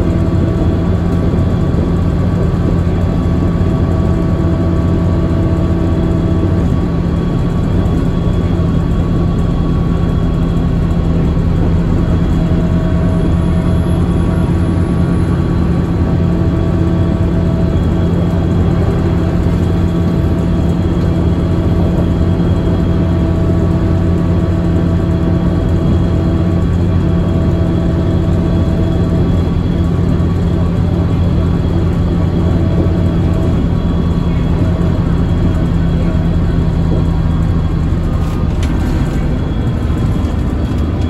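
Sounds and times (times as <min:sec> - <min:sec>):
bus engine droning: 0:00.0 - 0:41.0
tyre and road noise: 0:06.7 - 0:41.0.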